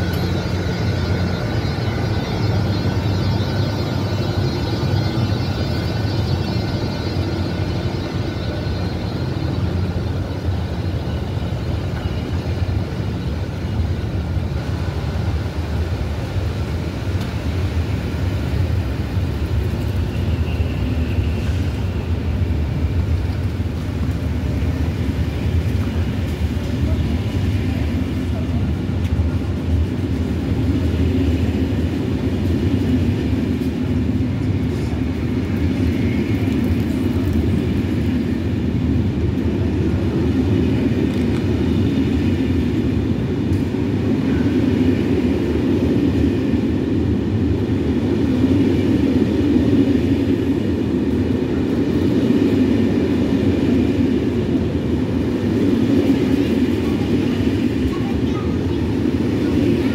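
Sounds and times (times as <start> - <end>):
faint high whine: 0.0 - 59.9
train wheels rumbling on rails: 0.0 - 59.9.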